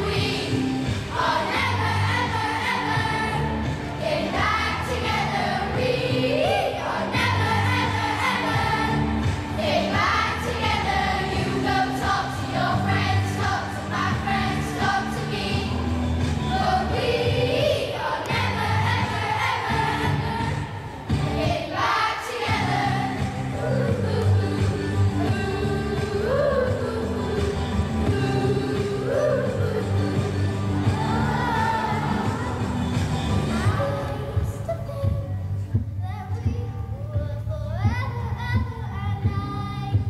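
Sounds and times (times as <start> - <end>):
music with repeating bass line: 0.0 - 17.7, 18.3 - 21.7, 22.5 - 34.0
children singing together: 0.0 - 34.9.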